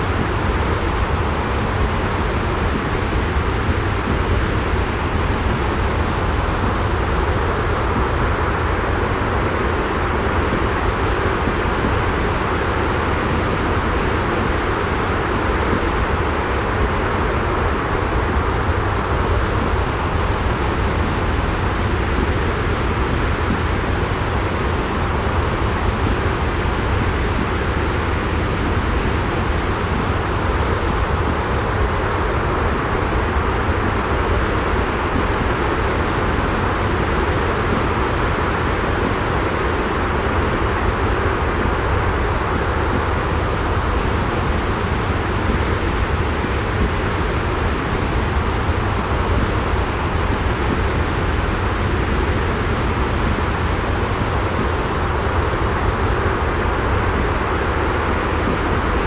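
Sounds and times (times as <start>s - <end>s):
white noise with low rumble: 0.0s - 59.0s.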